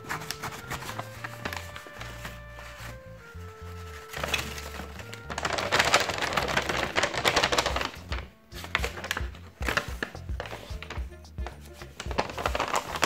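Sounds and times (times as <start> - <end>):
background music: 0.0 - 13.0
paper rustling and crackling: 0.0 - 13.0.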